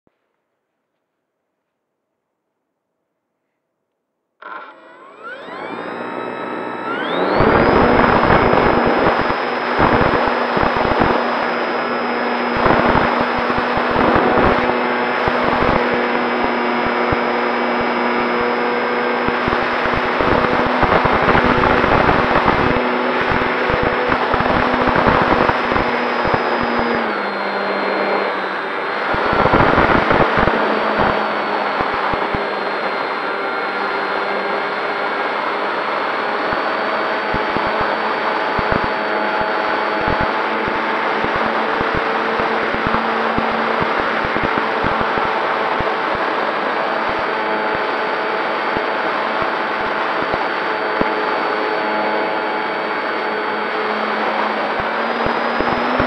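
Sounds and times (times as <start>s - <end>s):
electric motor and propeller whining: 4.4s - 56.0s.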